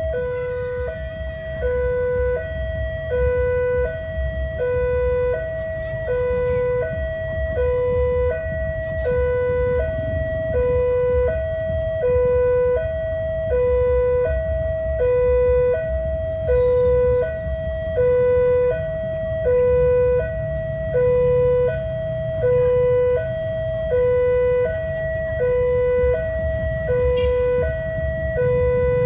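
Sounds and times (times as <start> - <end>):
two-tone level-crossing siren: 0.0 - 29.0.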